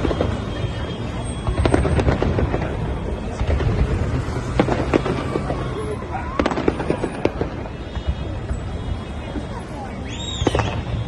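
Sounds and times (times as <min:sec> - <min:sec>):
fireworks crackling: 0:00.0 - 0:11.0
fireworks rumbling bursts: 0:00.0 - 0:11.0.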